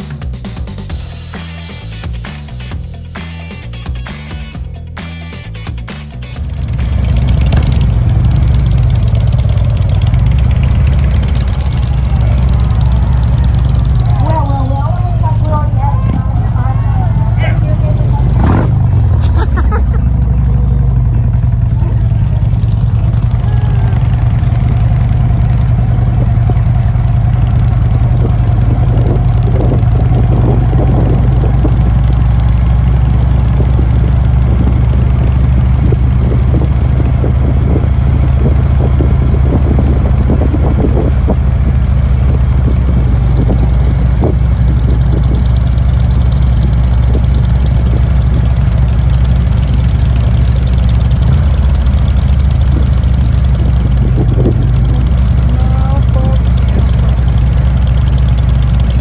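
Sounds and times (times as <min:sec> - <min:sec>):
motorcycle engines droning: 0:00.0 - 0:59.0.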